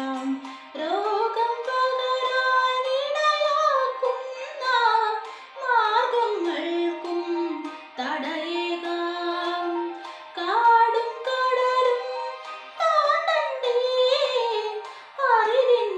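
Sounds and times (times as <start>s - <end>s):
girl singing: 0.0s - 15.9s.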